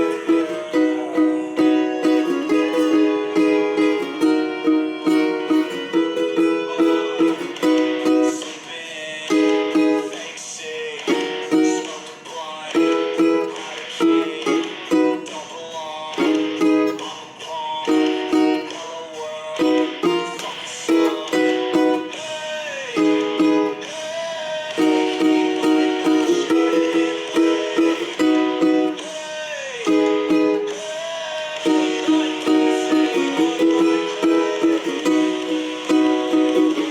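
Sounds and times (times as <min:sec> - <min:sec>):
ukulele strumming chords: 0:00.0 - 0:36.9.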